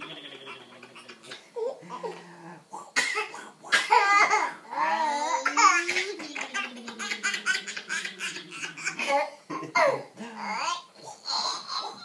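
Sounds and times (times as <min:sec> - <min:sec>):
baby laughing: 0:00.0 - 0:02.2, 0:03.7 - 0:12.0.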